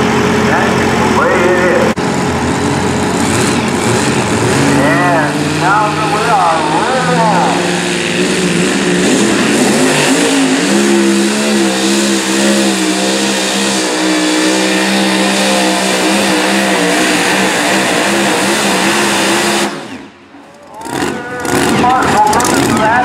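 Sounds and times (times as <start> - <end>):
supercharged engine at full throttle: 0.0 - 23.0.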